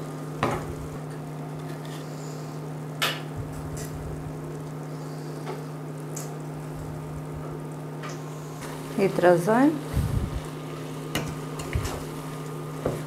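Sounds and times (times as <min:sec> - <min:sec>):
cooktop hum: 0:00.0 - 0:13.0
food sizzling in a pot: 0:00.0 - 0:13.0.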